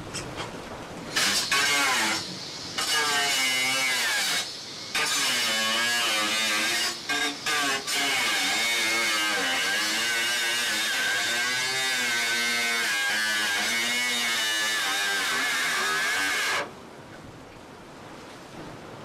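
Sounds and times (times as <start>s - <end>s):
angle grinder cutting: 1.1s - 16.7s.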